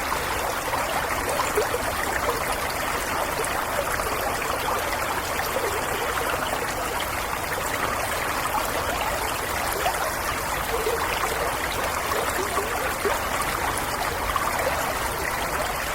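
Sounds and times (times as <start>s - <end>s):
stream trickling and gurgling: 0.0s - 15.9s.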